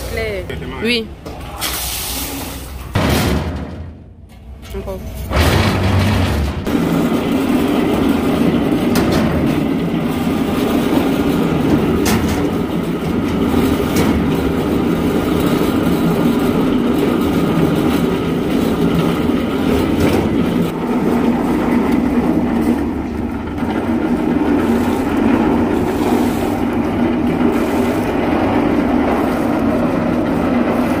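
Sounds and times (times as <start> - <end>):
concrete mixer drum turning: 2.3 - 31.0.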